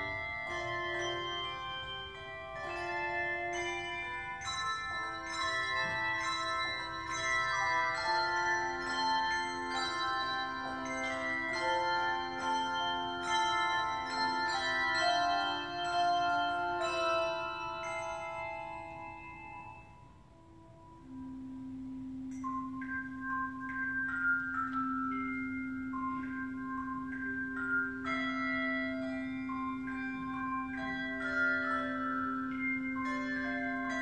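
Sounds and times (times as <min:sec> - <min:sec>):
handbell choir ringing: 0:00.0 - 0:34.0.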